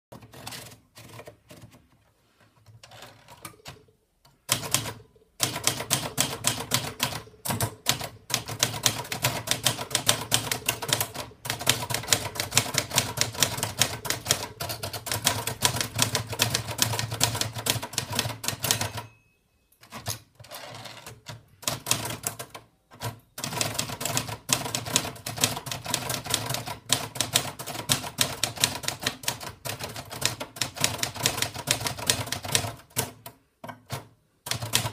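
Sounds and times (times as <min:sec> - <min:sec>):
manual typewriter typing: 0:00.1 - 0:01.9, 0:02.8 - 0:19.2, 0:19.8 - 0:34.9.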